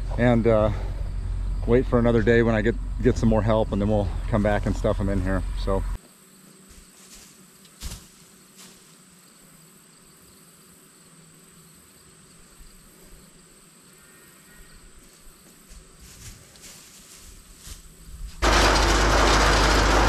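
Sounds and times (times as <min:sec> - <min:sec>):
insects chirring: 0:00.0 - 0:18.4.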